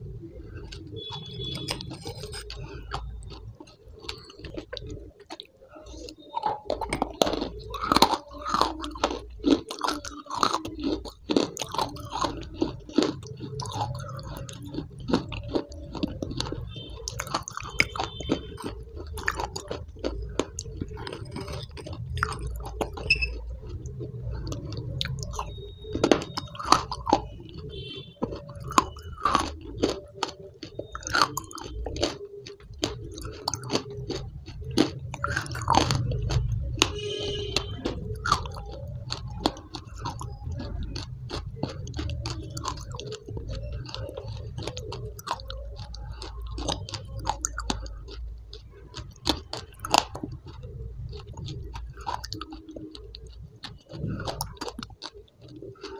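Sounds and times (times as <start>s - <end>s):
person chewing with crunching: 0.0s - 55.9s.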